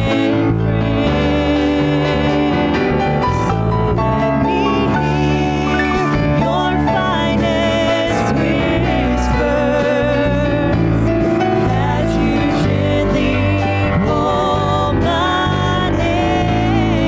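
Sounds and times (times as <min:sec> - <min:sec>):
person singing: 0:00.0 - 0:17.0
worship band playing: 0:00.0 - 0:17.0.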